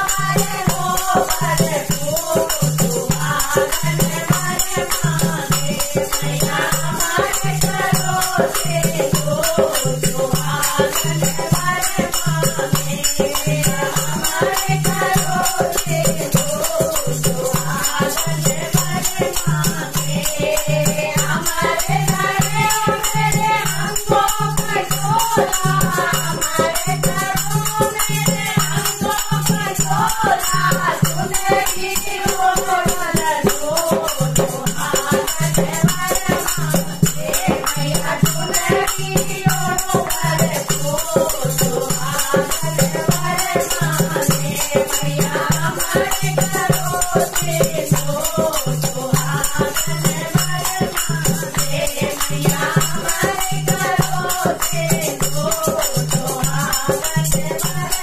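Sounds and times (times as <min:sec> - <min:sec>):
small hand cymbals: 0:00.0 - 0:58.0
women singing together: 0:00.0 - 0:58.0
hand drum: 0:00.1 - 0:58.0.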